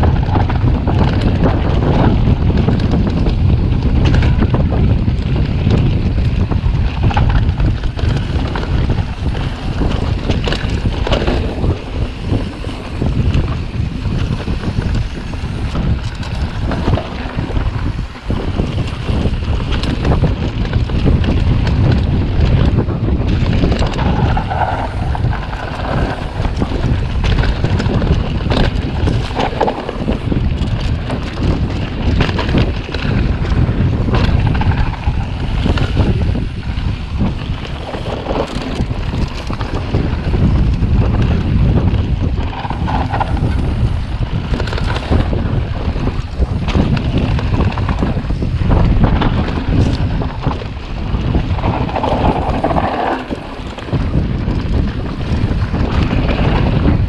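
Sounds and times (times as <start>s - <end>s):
bike clicks and rattles: 0.0s - 57.0s
tyres rolling on dirt trail: 0.0s - 57.0s
wind rushing over microphone: 0.0s - 57.0s.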